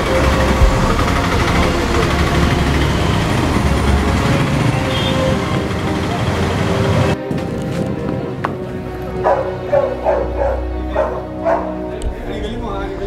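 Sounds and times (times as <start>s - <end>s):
motorbike engines: 0.0s - 12.8s.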